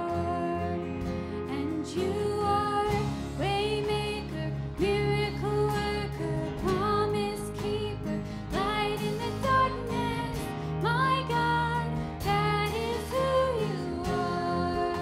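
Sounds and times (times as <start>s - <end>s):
acoustic guitar: 0.0s - 15.0s
bass: 0.0s - 15.0s
keyboard: 0.0s - 15.0s
voices singing: 1.5s - 15.0s.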